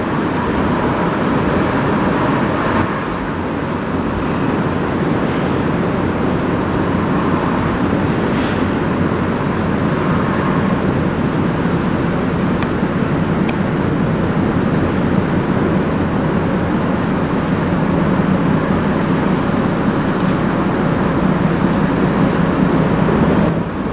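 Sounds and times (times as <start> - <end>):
ship engine low rumble: 0.0 - 23.9.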